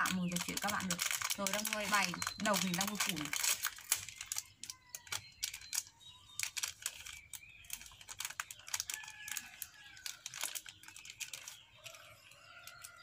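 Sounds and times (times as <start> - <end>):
plastic snack packet crinkling: 0.0 - 13.0.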